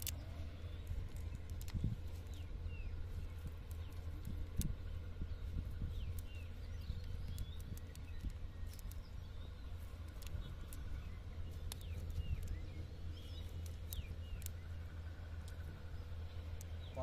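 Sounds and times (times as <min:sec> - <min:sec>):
low rumble: 0:00.0 - 0:17.0
small birds chirping: 0:00.0 - 0:17.0.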